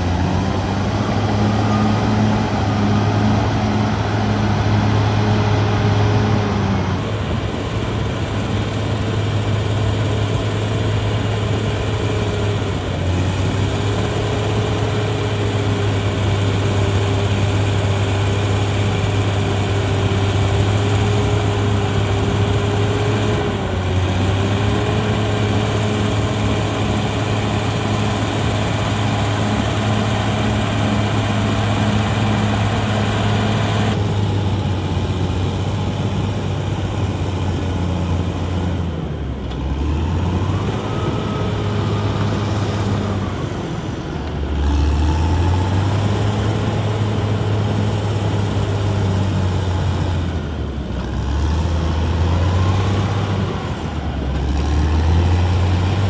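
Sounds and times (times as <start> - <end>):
bulldozer diesel engine under load: 0.0 - 56.0
engine whine: 0.0 - 56.0.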